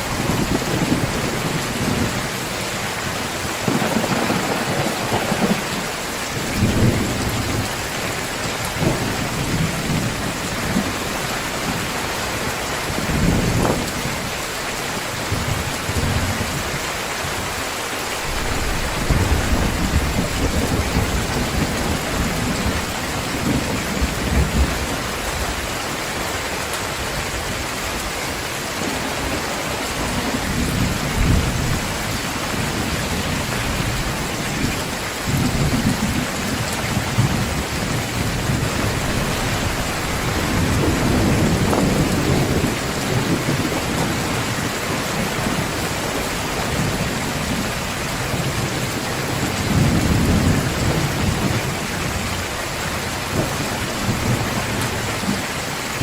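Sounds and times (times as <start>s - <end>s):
thunder rumbling: 0.0s - 14.4s, 18.1s - 25.6s, 28.8s - 56.0s
heavy rain pouring: 0.0s - 56.0s.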